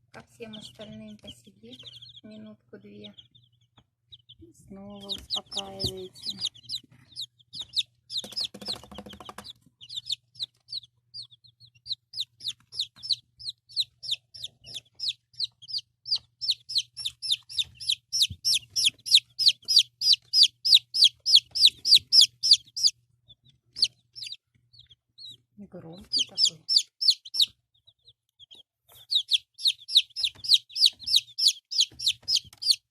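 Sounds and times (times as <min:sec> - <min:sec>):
chick peeping: 0:00.1 - 0:32.9.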